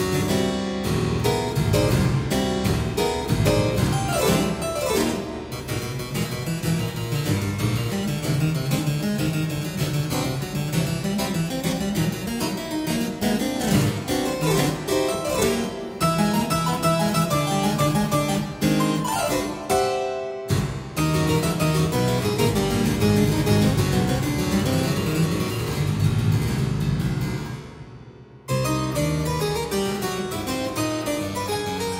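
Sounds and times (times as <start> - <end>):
solo harpsichord: 0.0 - 31.9.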